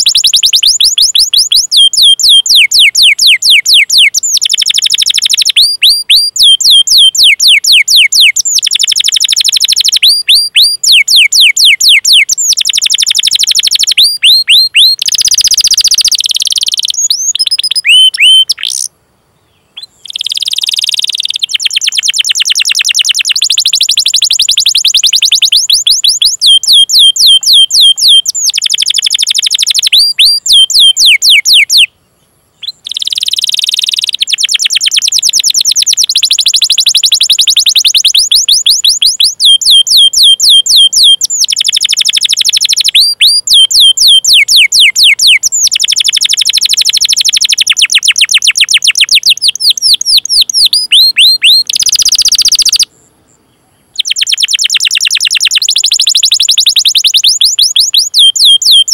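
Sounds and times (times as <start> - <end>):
canary singing: 0.0 - 18.9, 19.5 - 31.9, 32.6 - 58.9.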